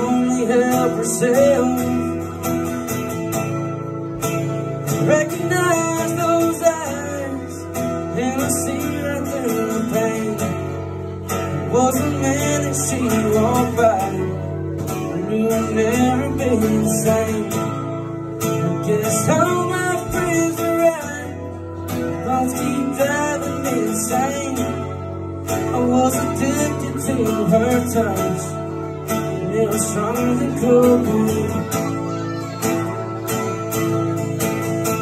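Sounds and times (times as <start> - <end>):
man singing: 0.0 - 3.0, 4.7 - 35.0
strummed acoustic guitar: 0.0 - 35.0.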